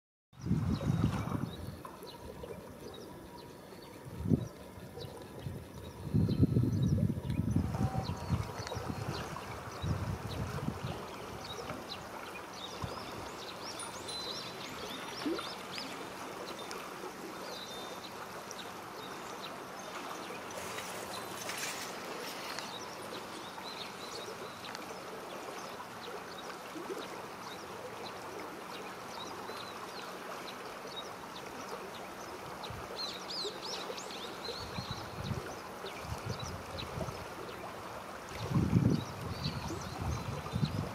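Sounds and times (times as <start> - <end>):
river water rushing: 7.7 - 40.9.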